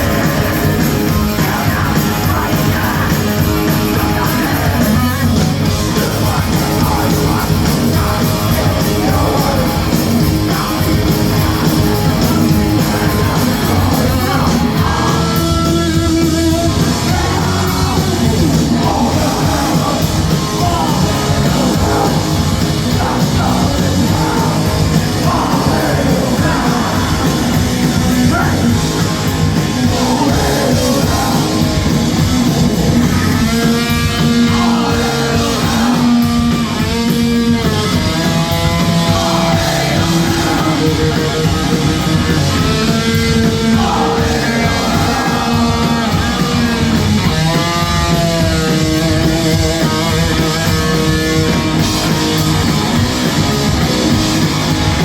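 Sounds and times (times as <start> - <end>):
distorted guitars: 0.0 - 55.0
drums: 0.0 - 55.0
yelled vocals: 0.0 - 55.0.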